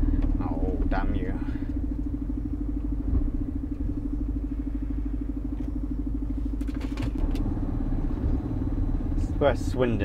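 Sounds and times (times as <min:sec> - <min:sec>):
lorry diesel engine from inside cab: 0:00.0 - 0:10.0.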